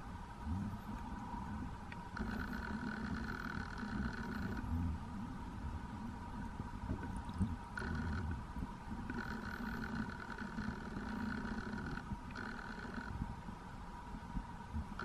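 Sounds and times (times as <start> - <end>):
muffled underwater hum: 0.0 - 15.0.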